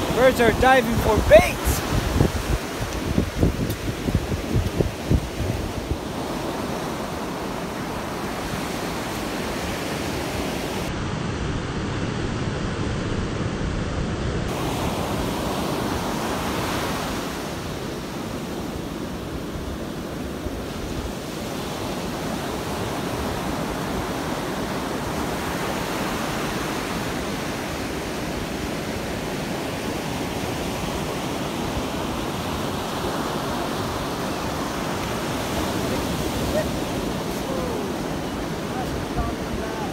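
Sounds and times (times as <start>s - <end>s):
ocean surf breaking: 0.0s - 39.9s
wind rumbling on microphone: 0.0s - 39.9s.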